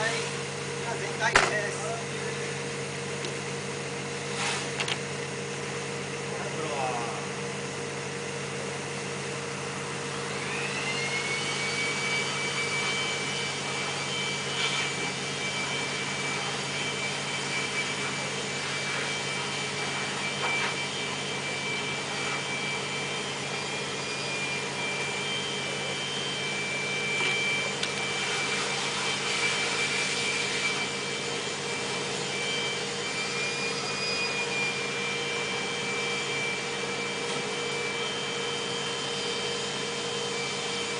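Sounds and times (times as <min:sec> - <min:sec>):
electric machine whine: 0:00.0 - 0:40.9
ventilation blower hum: 0:00.0 - 0:40.9.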